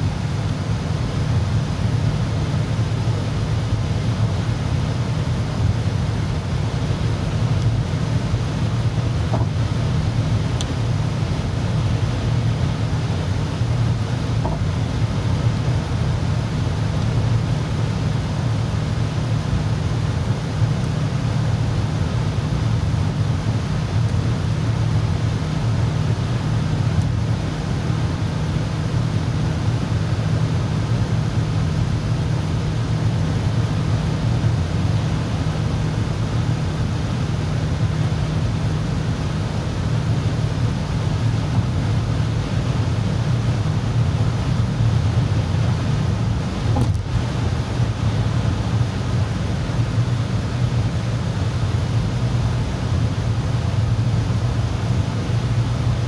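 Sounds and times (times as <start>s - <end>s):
car engine drone: 0.0s - 56.0s.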